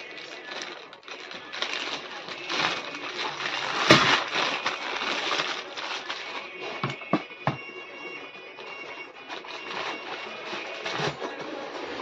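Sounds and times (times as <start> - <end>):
cardboard rustling: 0.0 - 8.0, 8.6 - 12.0
plastic wrapping crinkling: 0.0 - 12.0.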